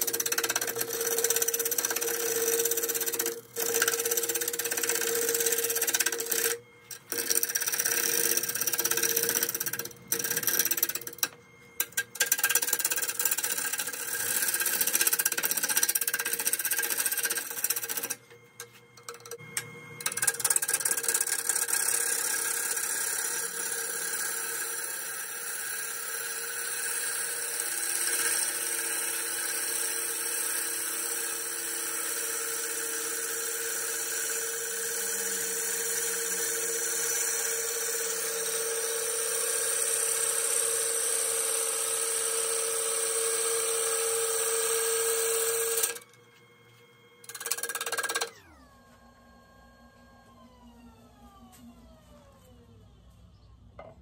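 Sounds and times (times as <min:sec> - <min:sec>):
lathe motor tone: 0:00.0 - 0:52.6.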